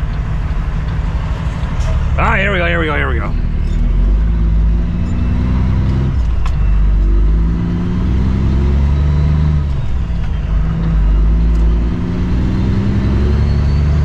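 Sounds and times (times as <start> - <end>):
diesel truck engine accelerating: 0.0 - 14.0.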